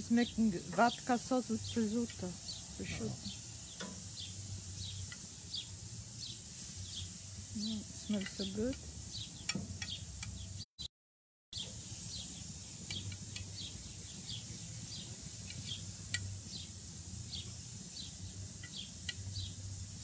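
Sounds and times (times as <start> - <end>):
birds chirping: 0.0 - 10.6, 11.6 - 19.8
steady hiss: 0.0 - 10.6, 11.6 - 20.0.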